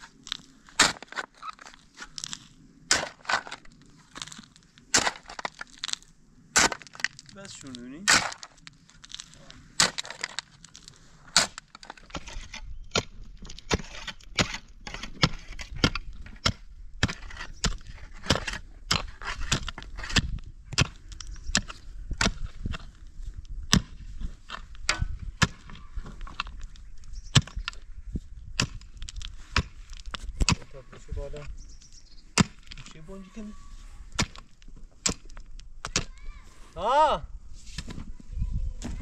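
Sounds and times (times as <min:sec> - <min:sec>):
shovel digging stony soil: 0:00.0 - 0:36.7.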